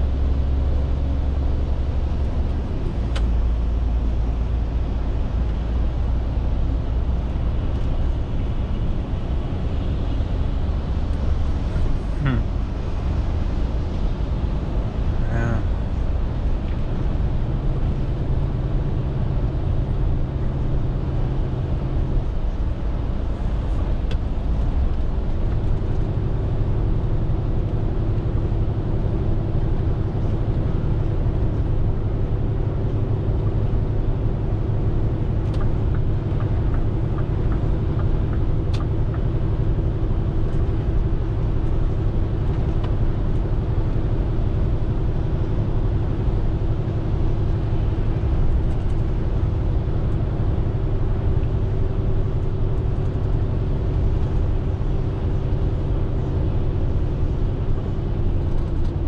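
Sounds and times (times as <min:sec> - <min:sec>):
diesel lorry engine running: 0:00.0 - 0:59.0.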